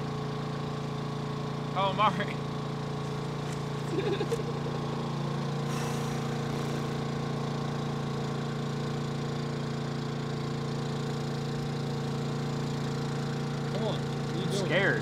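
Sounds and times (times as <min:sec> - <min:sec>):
boat generator humming: 0:00.0 - 0:15.0.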